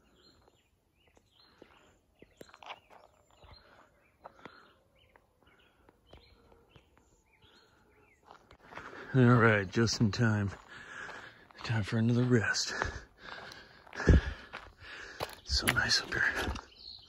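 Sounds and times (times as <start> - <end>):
bird chirping: 0.0 - 12.6, 14.6 - 17.0
footsteps on dirt trail: 0.0 - 17.0.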